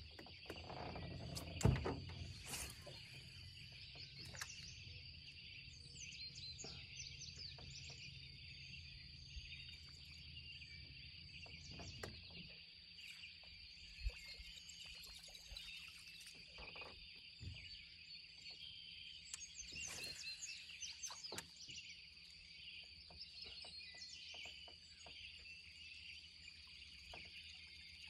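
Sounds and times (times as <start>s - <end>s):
bird chirps: 2.3s - 28.0s.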